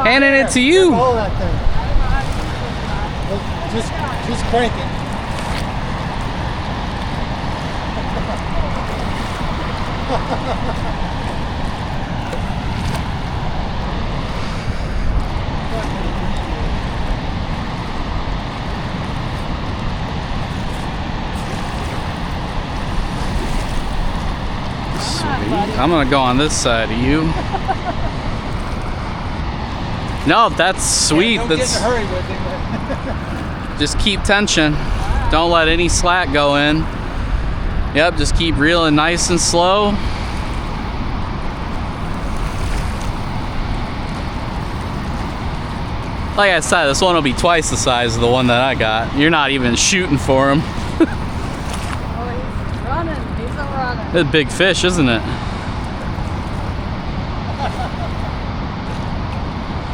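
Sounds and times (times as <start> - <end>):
water rushing over spillway: 0.0 - 59.9
wind buffeting microphone: 0.0 - 59.9.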